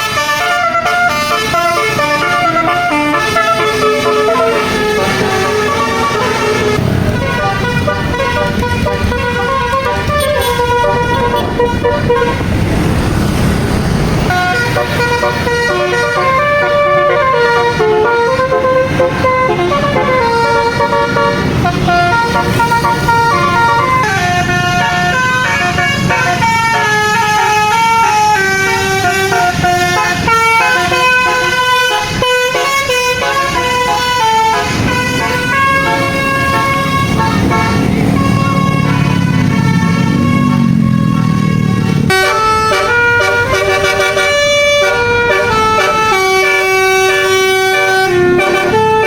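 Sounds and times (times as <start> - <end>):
bus engine rumble: 0.0 - 49.0
bus horn playing melody: 0.0 - 49.0.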